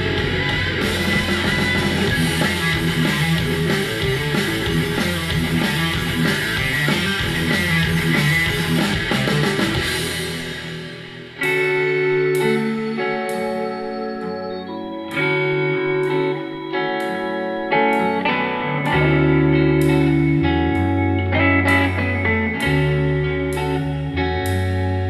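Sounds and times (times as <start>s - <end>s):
metal music through speakers: 0.0s - 25.0s
soft rock guitar music: 0.0s - 25.0s.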